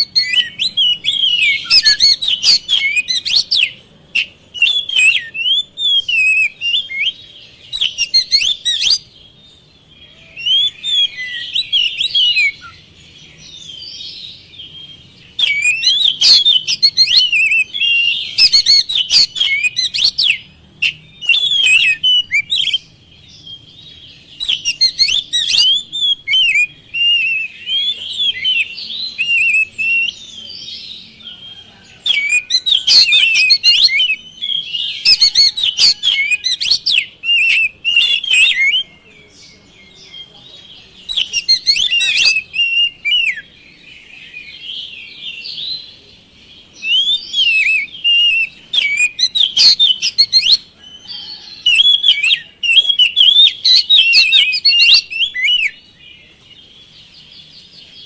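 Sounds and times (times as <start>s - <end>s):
songbird whistling: 0.0s - 39.0s, 39.8s - 46.0s, 46.7s - 57.9s.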